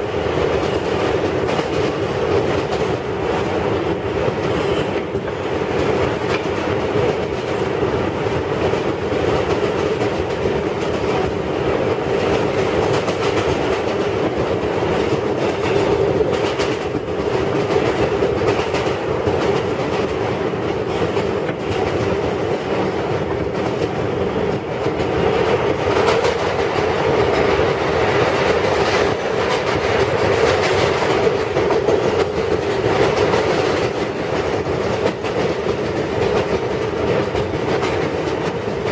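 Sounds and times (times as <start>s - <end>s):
subway wheels rumbling on rail: 0.0s - 38.9s.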